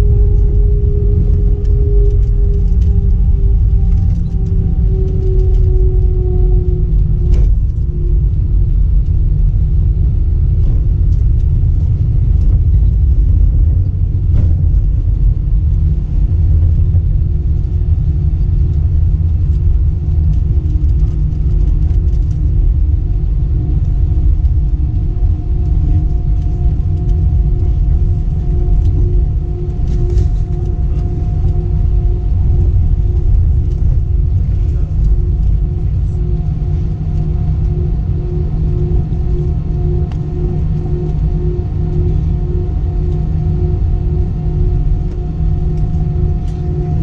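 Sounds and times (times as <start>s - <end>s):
airplane cabin rumble: 0.0s - 47.0s
jet engine hum: 0.0s - 47.0s.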